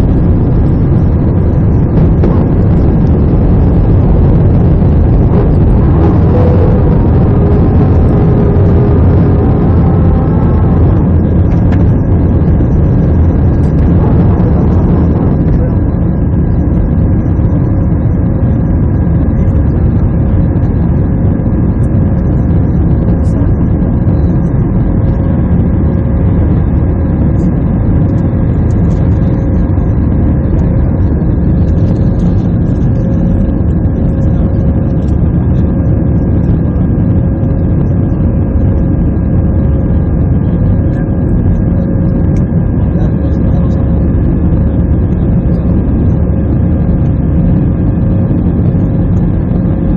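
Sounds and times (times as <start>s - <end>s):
faint steady whine: 0.0s - 49.9s
jet engines and rushing air roar: 0.0s - 49.9s.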